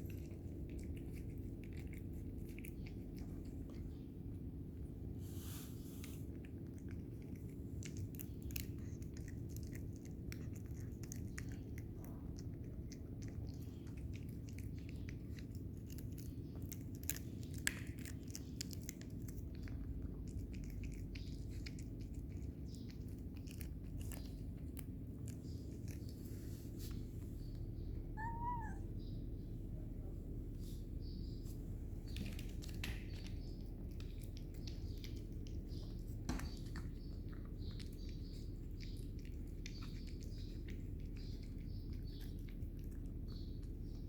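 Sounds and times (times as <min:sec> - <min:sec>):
cat crunching food: 0:00.0 - 0:05.1, 0:06.0 - 0:28.8, 0:31.6 - 0:44.0
steady low hum: 0:00.0 - 0:44.0.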